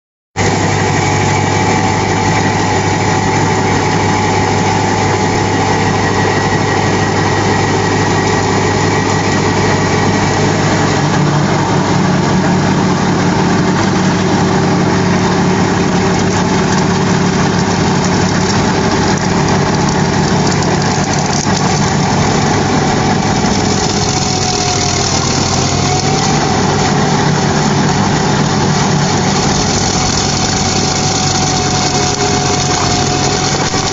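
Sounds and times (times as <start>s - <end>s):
tractor engine running: 0.4s - 33.9s.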